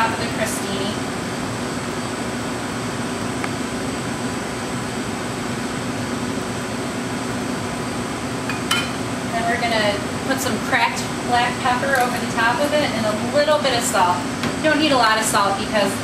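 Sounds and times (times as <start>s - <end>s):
ventilation fan hum and hiss: 0.0s - 16.0s.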